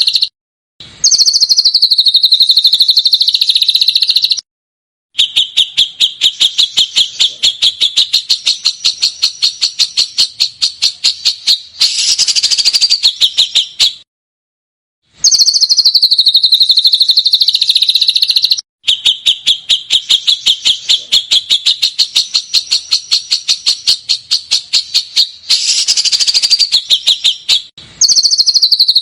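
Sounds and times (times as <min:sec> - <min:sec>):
songbird call: 0:01.0 - 0:04.4, 0:05.2 - 0:14.0, 0:15.2 - 0:29.0.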